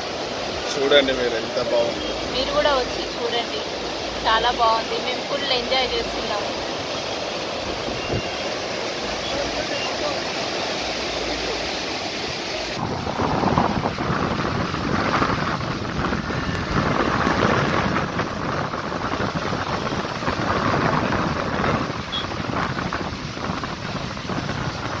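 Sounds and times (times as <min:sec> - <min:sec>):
floodwater roaring: 0:00.0 - 0:25.0
wind buffeting microphone: 0:00.0 - 0:25.0.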